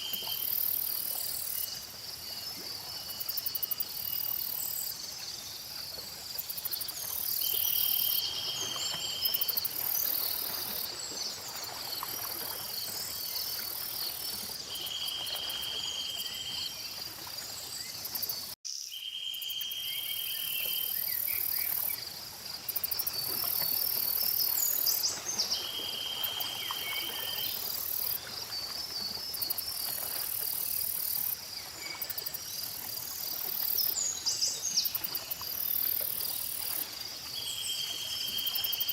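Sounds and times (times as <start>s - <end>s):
crickets and insects chirring: 0.0s - 38.9s.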